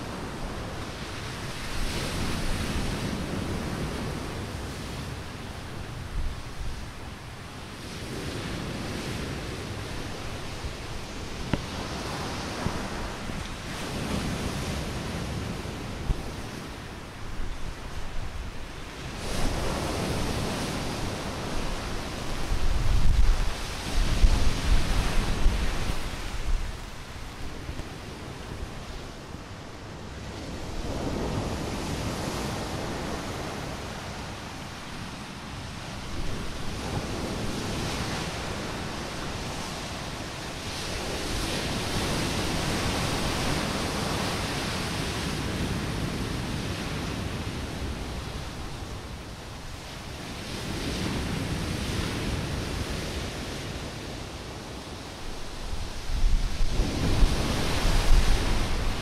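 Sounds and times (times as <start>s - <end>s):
sea waves breaking ashore: 0.0s - 59.0s
wind buffeting microphone: 0.0s - 59.0s.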